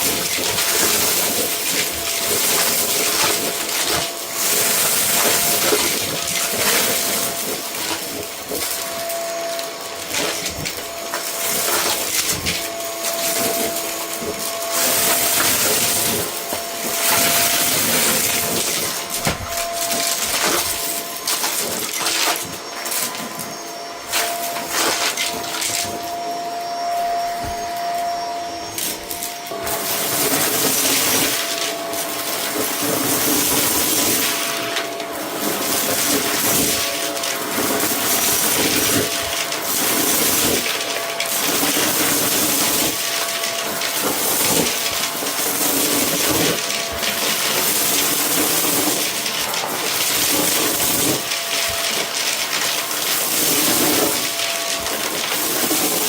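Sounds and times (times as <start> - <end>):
debris rattling up a hose: 0.0 - 56.0
vacuum cleaner whining: 0.0 - 56.0.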